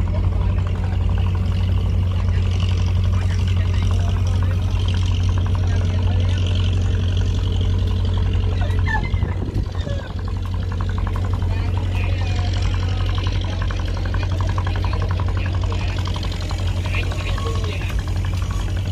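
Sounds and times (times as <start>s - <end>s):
boat engine low hum: 0.0s - 18.9s.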